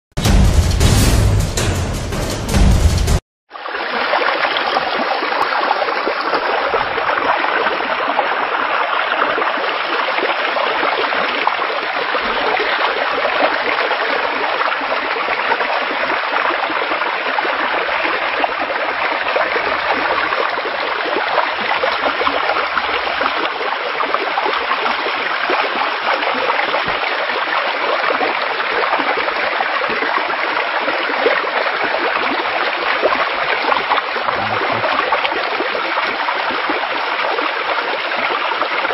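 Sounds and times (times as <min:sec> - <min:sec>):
floodwater rushing: 0:03.6 - 0:15.7, 0:16.6 - 0:38.9.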